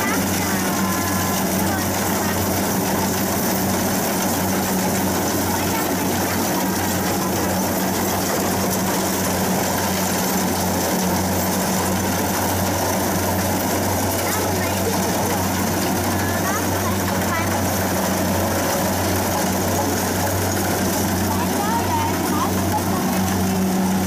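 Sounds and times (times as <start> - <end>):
diesel engine humming: 0.0 - 24.0.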